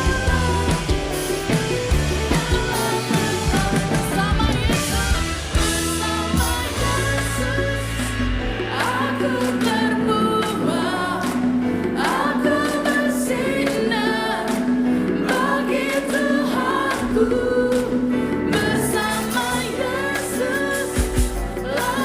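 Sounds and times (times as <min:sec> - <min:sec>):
gospel song with choir and band: 0:00.0 - 0:22.0.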